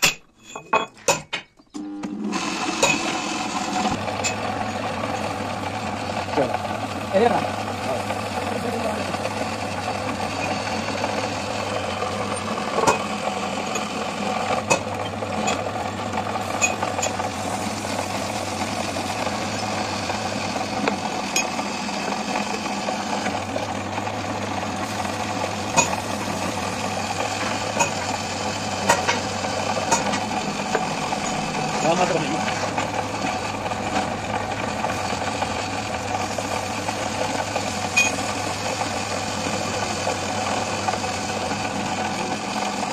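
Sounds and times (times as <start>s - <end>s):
machine motor humming: 1.8s - 42.9s.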